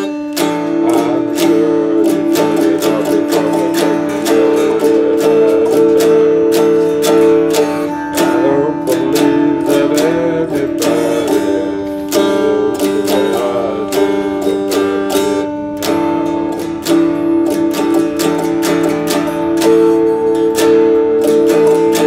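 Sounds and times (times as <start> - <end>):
electric guitar picking chords: 0.0 - 22.0.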